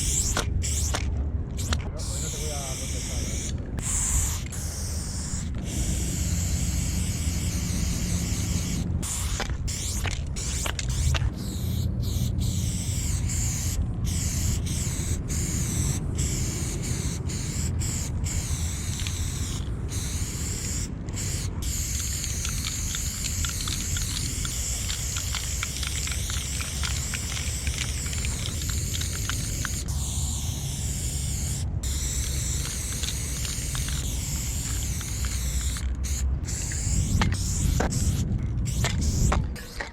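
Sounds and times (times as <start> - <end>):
spray paint can hissing: 0.0 - 39.9
steady low rumble: 0.0 - 39.9.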